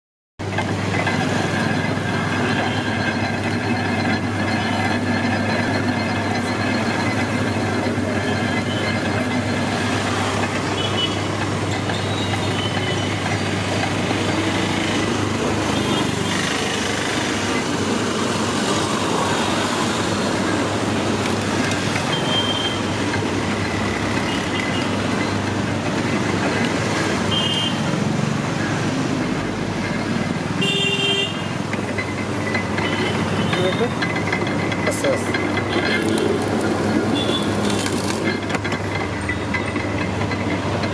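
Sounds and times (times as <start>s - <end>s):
crushing machine gears and rollers: 0.4s - 30.6s, 31.4s - 40.9s
street traffic: 0.4s - 40.9s.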